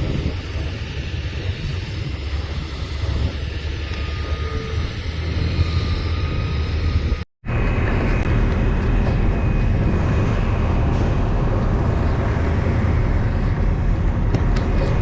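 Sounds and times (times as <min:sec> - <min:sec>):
diesel machinery engines rumbling: 0:00.0 - 0:15.0.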